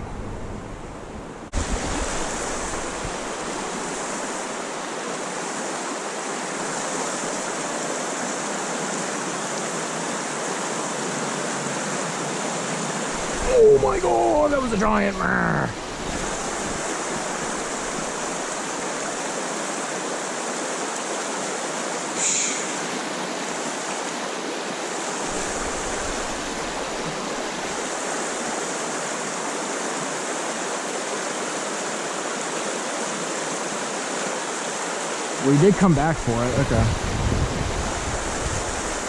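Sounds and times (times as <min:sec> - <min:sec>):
creek water rushing: 0:00.0 - 0:39.0.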